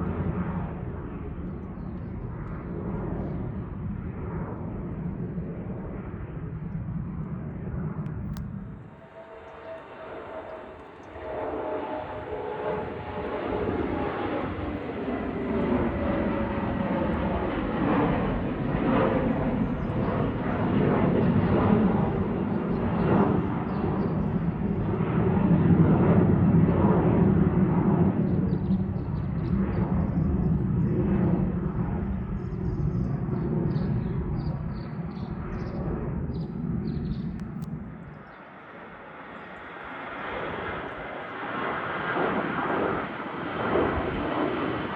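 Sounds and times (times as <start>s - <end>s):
airplane engine taking off: 0.0s - 44.9s.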